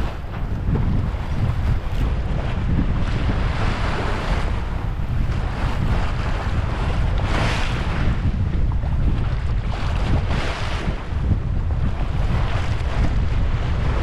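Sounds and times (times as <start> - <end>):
water rushing along boat hull: 0.0 - 14.0
wind buffeting microphone: 0.0 - 14.0.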